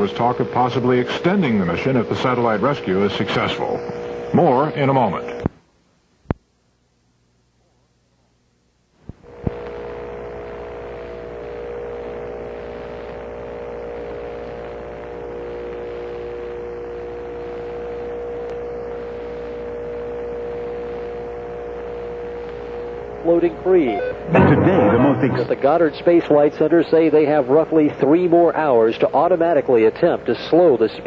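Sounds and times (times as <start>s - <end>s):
electrical hum over hiss: 0.0s - 31.0s.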